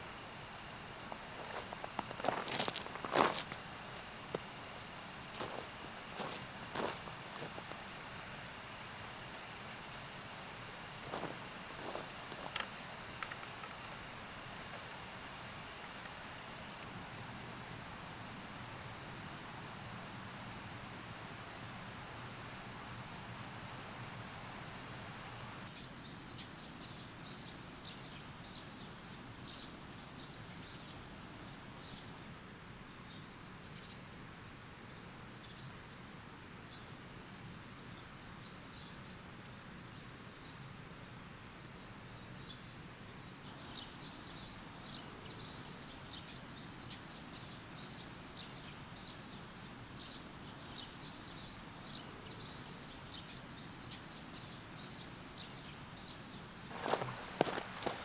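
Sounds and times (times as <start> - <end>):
lower pulsing insect song: 0.0 - 58.0.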